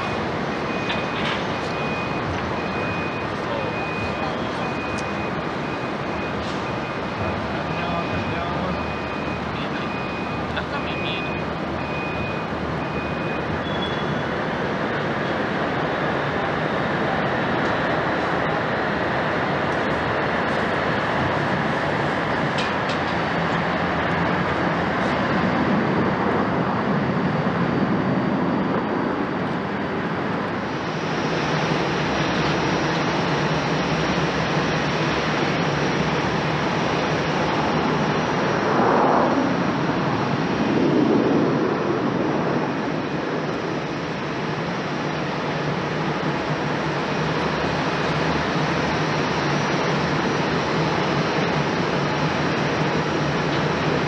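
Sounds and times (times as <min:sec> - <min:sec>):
airliner climbing after takeoff: 0:00.0 - 0:54.0
distant jet engines roaring: 0:00.0 - 0:54.0.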